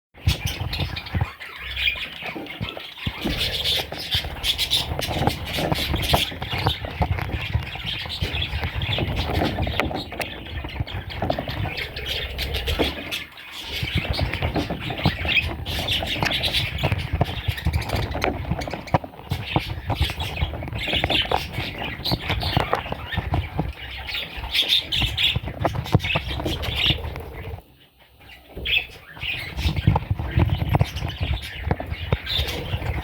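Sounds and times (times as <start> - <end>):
scratchy clicks and bumps: 0.2 - 27.7, 28.6 - 33.0
budgerigar chicks squawking: 0.2 - 33.0.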